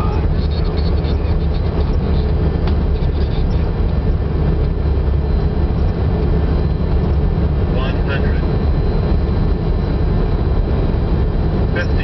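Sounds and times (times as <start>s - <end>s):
low rumble of airflow and engines: 0.0s - 12.0s.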